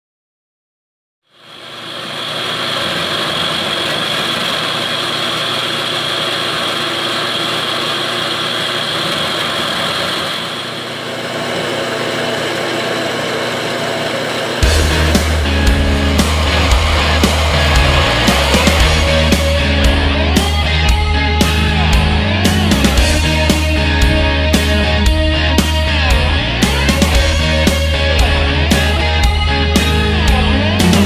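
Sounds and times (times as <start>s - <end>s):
band saw cutting steel pipe: 1.3s - 31.0s.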